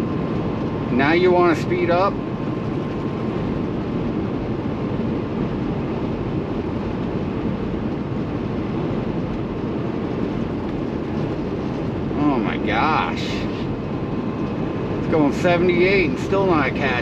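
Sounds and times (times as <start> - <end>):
diesel truck engine running: 0.0 - 17.0
tyre and road noise: 0.0 - 17.0.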